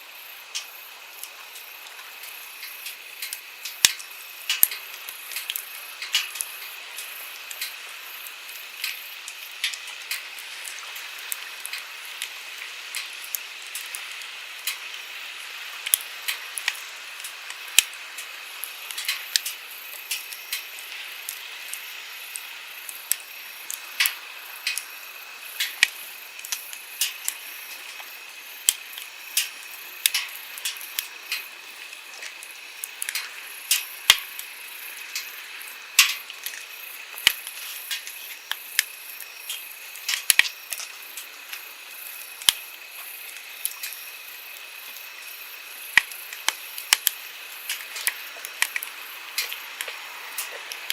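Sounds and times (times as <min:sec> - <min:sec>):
campfire crackling and popping: 0:00.1 - 0:50.9.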